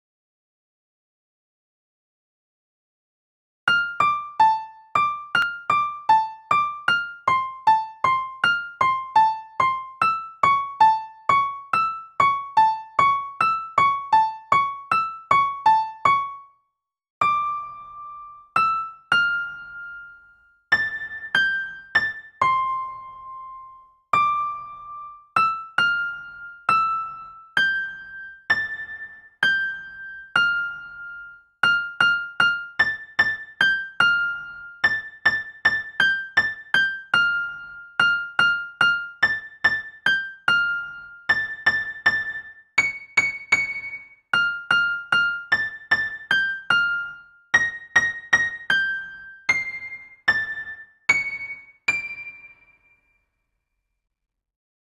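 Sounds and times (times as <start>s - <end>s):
piano tune: 3.7s - 16.6s, 17.2s - 53.2s.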